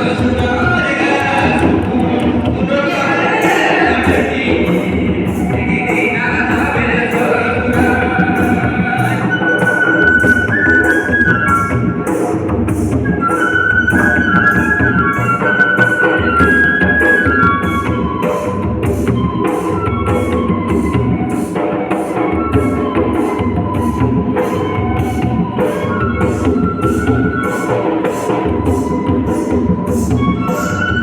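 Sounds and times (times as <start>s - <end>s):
steady percussion beat: 0.0s - 31.0s.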